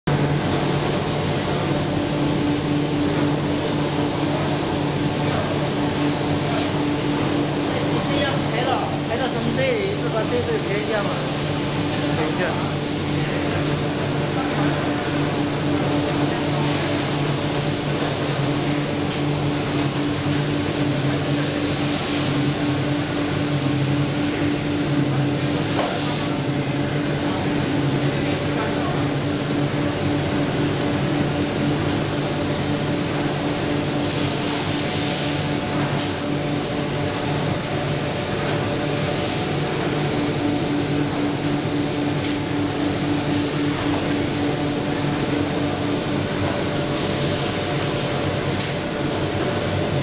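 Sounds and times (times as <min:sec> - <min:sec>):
machine mechanical hum: 0:00.1 - 0:50.0.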